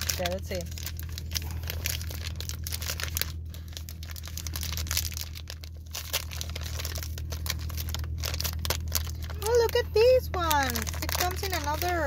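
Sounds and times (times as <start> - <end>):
paper wrapper crumpling and tearing: 0.0 - 12.0
steady low hum: 0.0 - 12.0.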